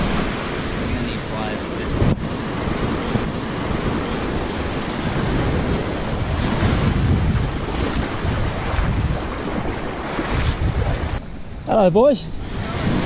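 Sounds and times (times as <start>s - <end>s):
small waves breaking on sand: 0.0s - 11.2s, 12.3s - 13.0s
wind buffeting microphone: 0.0s - 13.0s.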